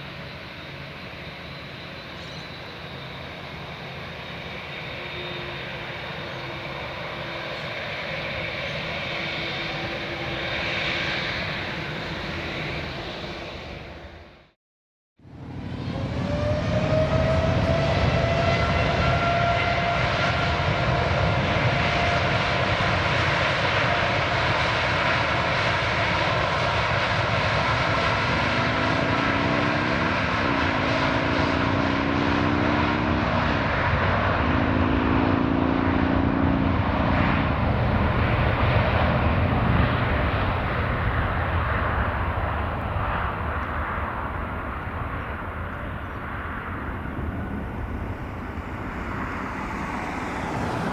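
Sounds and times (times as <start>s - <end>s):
jet engines roaring at take-off: 0.0s - 14.6s, 15.2s - 50.9s.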